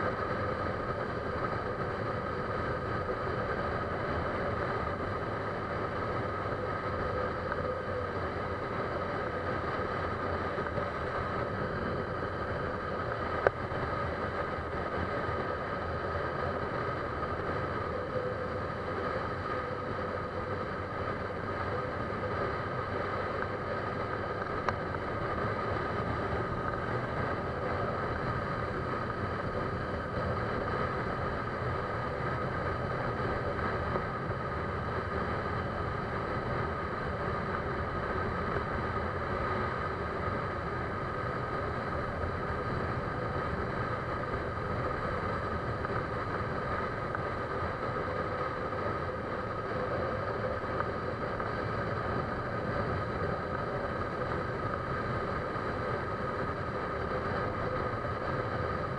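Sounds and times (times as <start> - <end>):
steady mechanical drone: 0.0 - 58.9.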